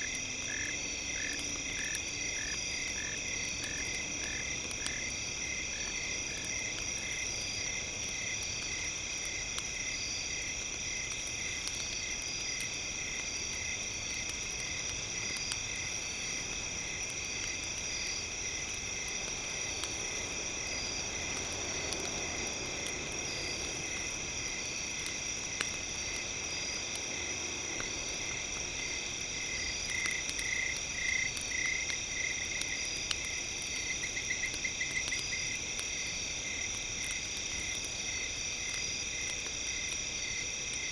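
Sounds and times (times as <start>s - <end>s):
campfire crackling: 0.0s - 40.9s
insects chirping: 0.0s - 40.9s.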